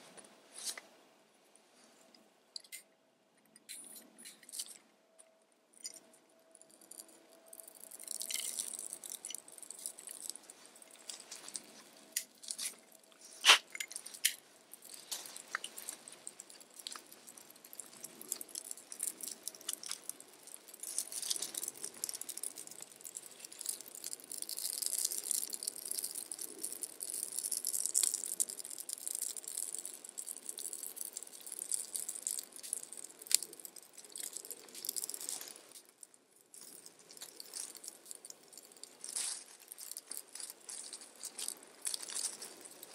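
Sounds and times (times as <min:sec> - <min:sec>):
twig fire crackling: 0:05.8 - 0:42.9.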